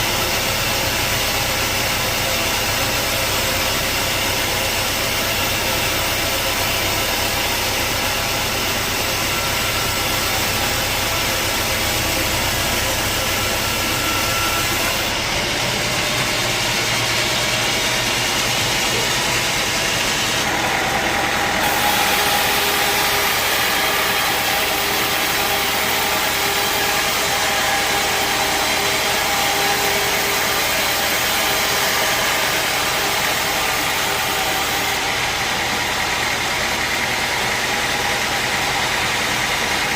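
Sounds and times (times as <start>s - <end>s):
sawmill saw and motor running: 0.0s - 39.9s.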